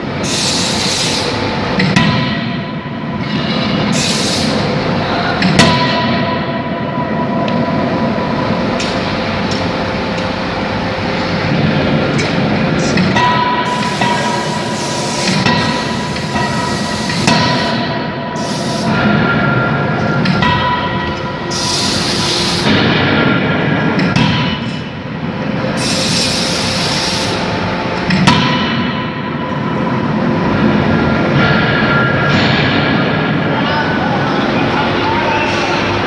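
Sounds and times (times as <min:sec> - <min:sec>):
machinery noise with faint whine: 0:00.0 - 0:36.0.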